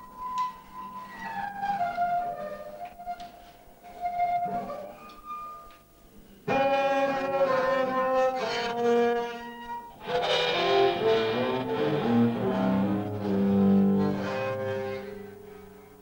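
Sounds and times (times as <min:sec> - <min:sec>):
instrumental music of held notes: 0:00.0 - 0:16.0.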